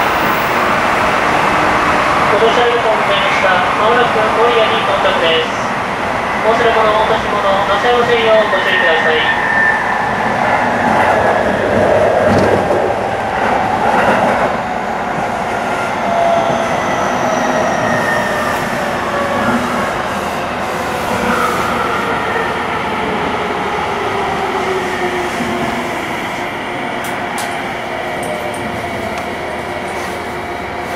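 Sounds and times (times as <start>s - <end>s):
train rolling rumble: 0.0s - 30.9s.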